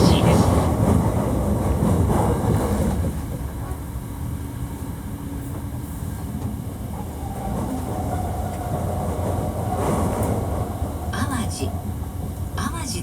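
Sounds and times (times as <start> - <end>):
train wheels rumbling on rail: 0.0 - 12.9.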